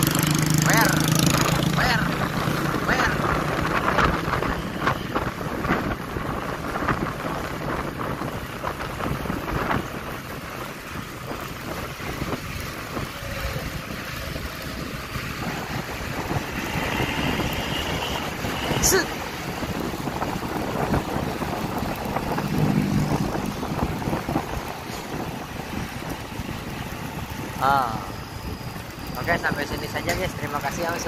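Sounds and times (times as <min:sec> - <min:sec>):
motorcycle road noise: 0:00.0 - 0:31.0
wind rumbling over microphone: 0:00.0 - 0:31.0.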